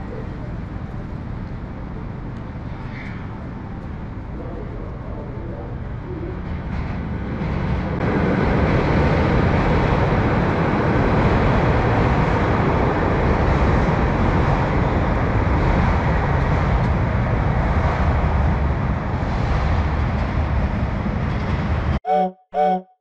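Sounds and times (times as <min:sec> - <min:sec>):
train rumbling past: 0:00.0 - 0:22.8.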